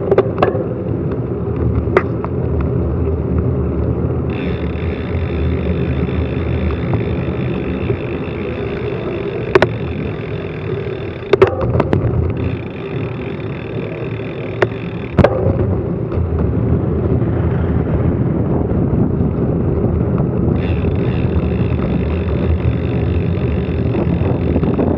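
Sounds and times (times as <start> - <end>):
wind noise on microphone: 0.0 - 24.9.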